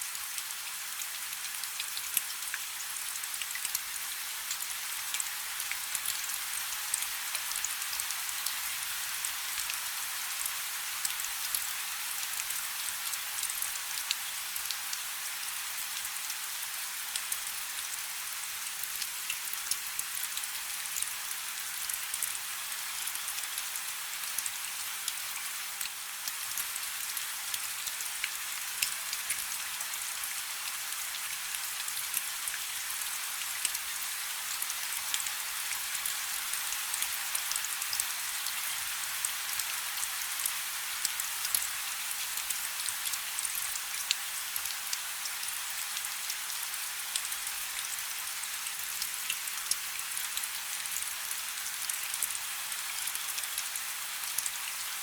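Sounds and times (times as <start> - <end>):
rain falling on a river: 0.0 - 55.0.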